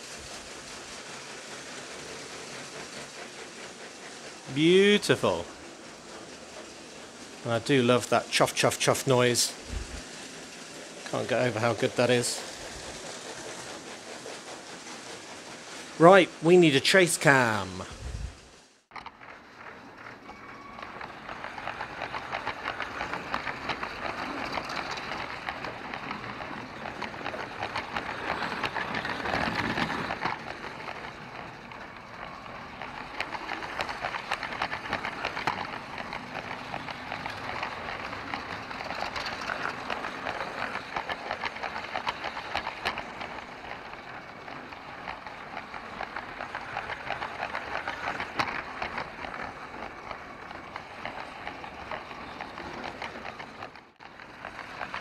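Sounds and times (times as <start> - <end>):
toy train clicking on plastic track: 0.0 - 17.9, 19.0 - 55.0.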